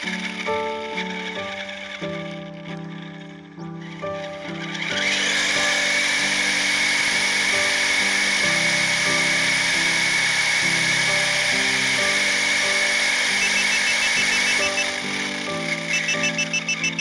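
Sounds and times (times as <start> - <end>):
background music: 0.0 - 17.0
toy car electric motor whining: 0.0 - 17.0.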